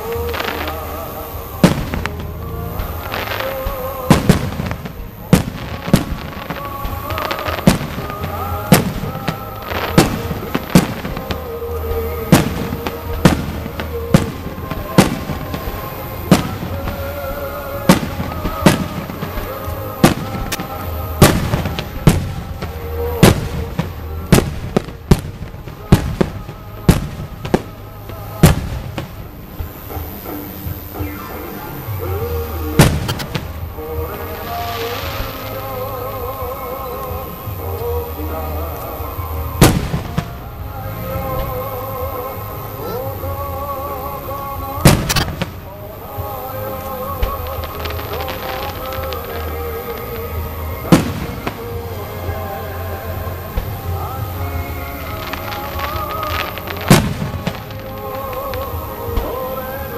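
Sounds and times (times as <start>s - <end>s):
fireworks bursting: 0.0s - 59.9s
music: 0.0s - 59.9s.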